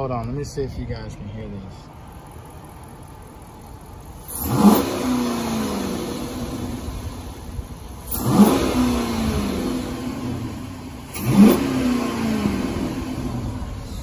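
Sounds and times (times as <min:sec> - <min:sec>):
car engine revving: 0:02.2 - 0:14.0.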